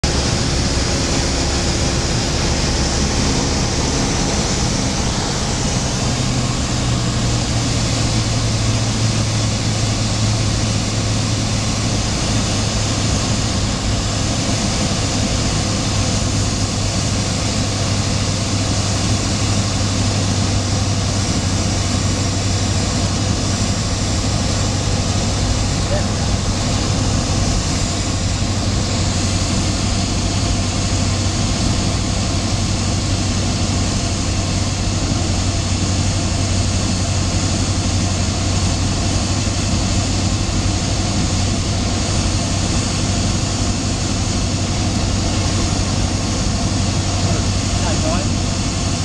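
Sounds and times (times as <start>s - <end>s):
propeller plane engine droning: 0.0s - 49.0s.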